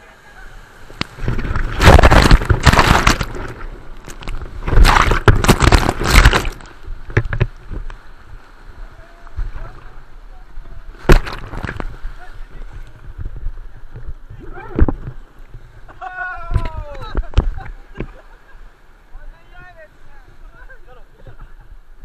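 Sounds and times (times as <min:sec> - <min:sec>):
whitewater splashing against raft: 0:00.0 - 0:21.6.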